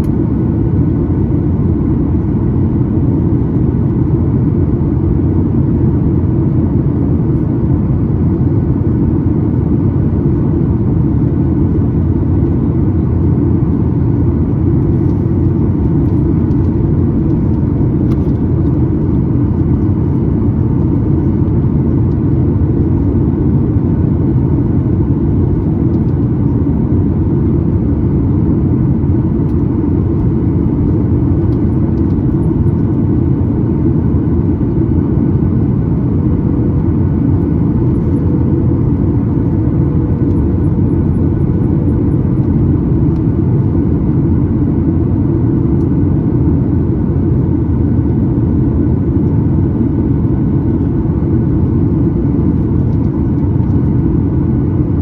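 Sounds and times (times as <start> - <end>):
airflow over fuselage: 0.0 - 55.0
airplane cabin engine rumble: 0.0 - 55.0.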